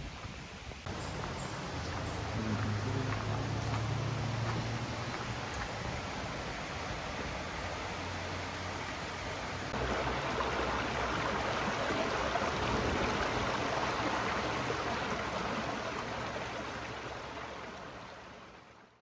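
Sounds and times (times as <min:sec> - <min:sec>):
stream water rushing: 0:00.8 - 0:19.0.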